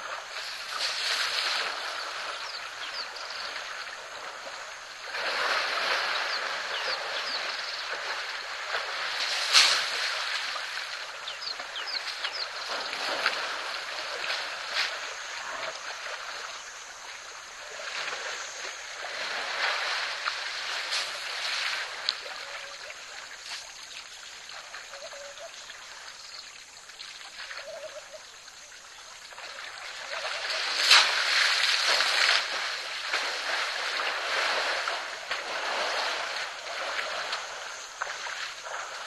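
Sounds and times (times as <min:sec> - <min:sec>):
sharp water splash: 0:00.0 - 0:26.1, 0:29.1 - 0:39.0
water sloshing and splashing: 0:00.0 - 0:39.0.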